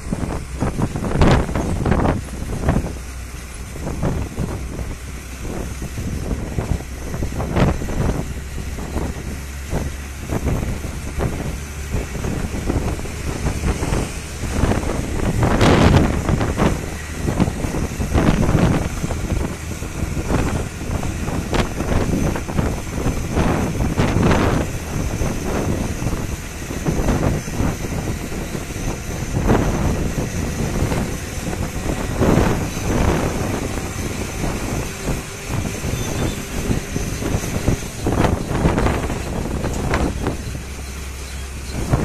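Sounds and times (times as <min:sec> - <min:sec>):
truck diesel engine droning: 0:00.0 - 0:42.0
wind on microphone: 0:00.0 - 0:42.0.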